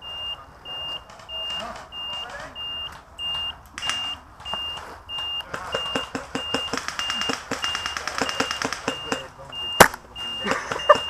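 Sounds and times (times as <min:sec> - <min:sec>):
high electronic beeps: 0:00.0 - 0:11.0
airsoft guns firing: 0:00.2 - 0:11.0.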